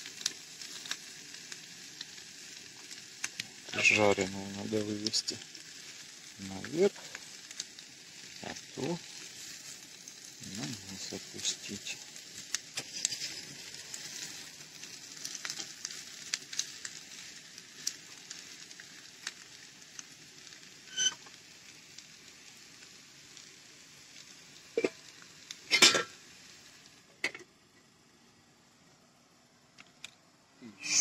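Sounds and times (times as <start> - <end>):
potatoes sizzling in frying pan: 0.0 - 31.0.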